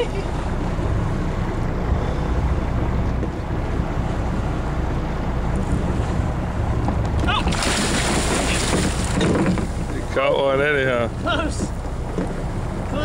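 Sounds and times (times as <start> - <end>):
boat engine rumble: 0.0 - 13.0
water noise: 0.0 - 13.0
wind: 0.0 - 13.0.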